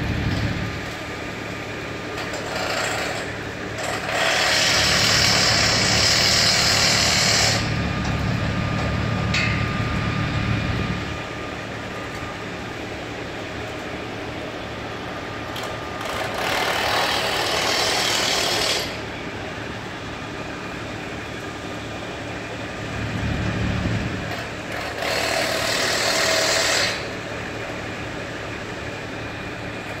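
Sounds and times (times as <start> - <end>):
idling site machinery hum: 0.0 - 26.2, 26.9 - 30.0.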